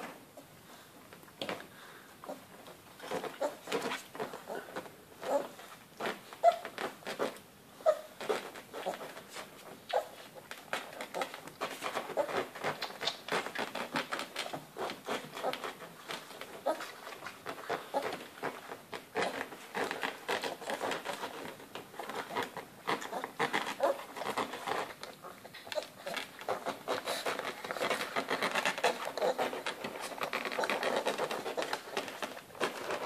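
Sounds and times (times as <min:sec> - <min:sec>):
puppies suckling: 0:02.3 - 0:33.0
puppies squeaking and grunting: 0:03.0 - 0:05.6, 0:06.3 - 0:09.2, 0:09.9 - 0:10.2, 0:10.8 - 0:33.0.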